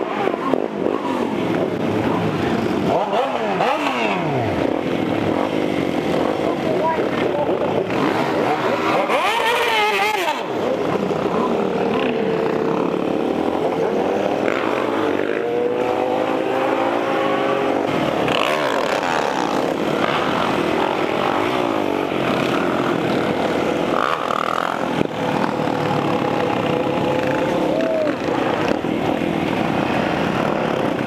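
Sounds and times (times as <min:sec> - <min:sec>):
motorcycle engines revving: 0:00.0 - 0:31.0
nearby motorcycle engine: 0:00.0 - 0:31.0.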